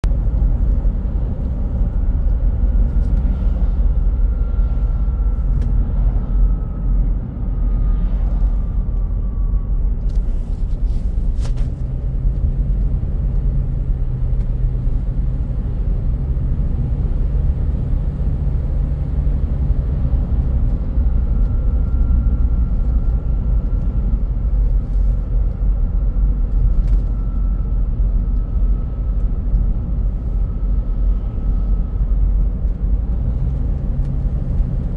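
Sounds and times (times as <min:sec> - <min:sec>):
loud steady low rumble: 0:00.0 - 0:34.9.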